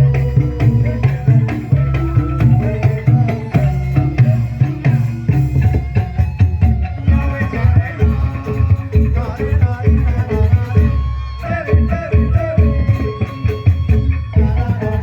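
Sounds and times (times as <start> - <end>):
hand drum and percussion beat: 0.0 - 15.0
melodic instruments: 0.0 - 15.0.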